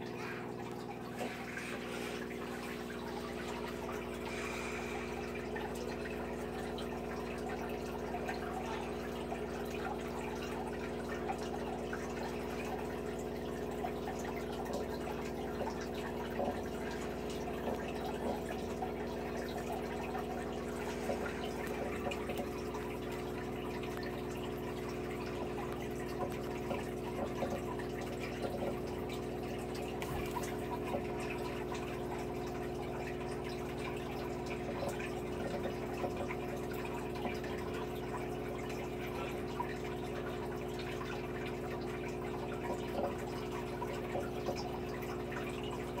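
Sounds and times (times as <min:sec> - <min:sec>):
aquarium water bubbling: 0:00.0 - 0:46.0
water dripping and splashing: 0:00.0 - 0:46.0.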